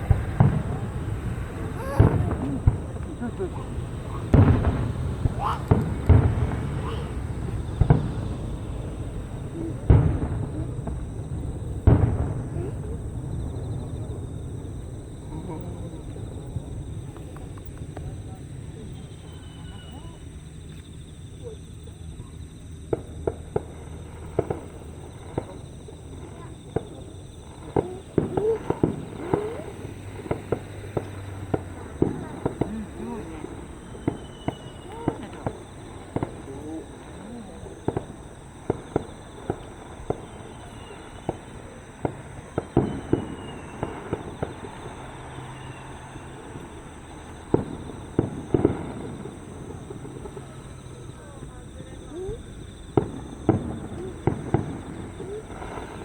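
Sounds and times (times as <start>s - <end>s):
distant fireworks bursting: 0.0s - 56.0s
insect trill: 0.0s - 56.0s.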